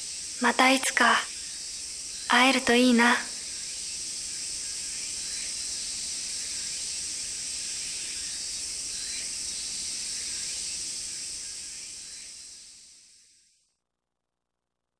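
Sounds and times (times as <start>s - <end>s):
insects chorus: 0.0s - 13.7s.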